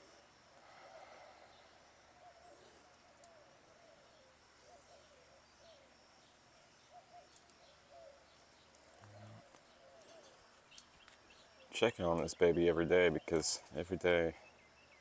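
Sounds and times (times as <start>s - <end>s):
faint wavering bird calls: 0.0s - 15.0s.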